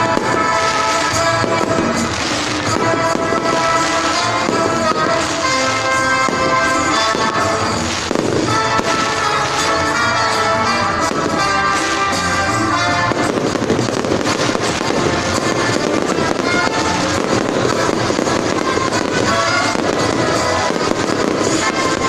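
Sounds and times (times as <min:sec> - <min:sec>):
fireworks crackling: 0:00.0 - 0:22.0
music: 0:00.0 - 0:22.0.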